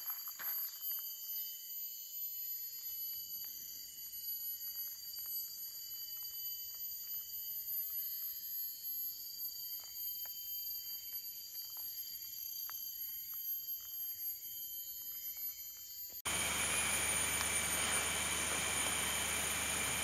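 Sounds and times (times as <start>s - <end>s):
faint scattered ticks: 0.0s - 16.2s
insect chorus whine: 0.0s - 20.0s.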